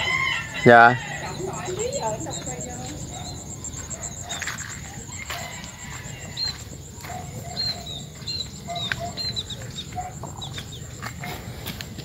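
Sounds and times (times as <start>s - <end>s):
high peeps: 0.0s - 11.0s
chickens clucking: 0.0s - 12.0s.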